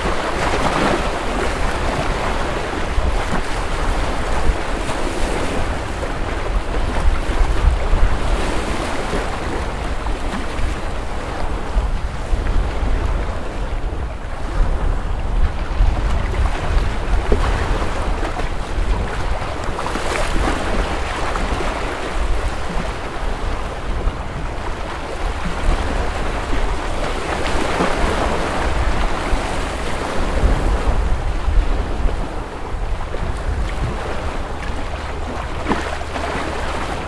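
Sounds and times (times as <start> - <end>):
small waves washing on shore: 0.0 - 37.0
wind on microphone: 0.0 - 37.0.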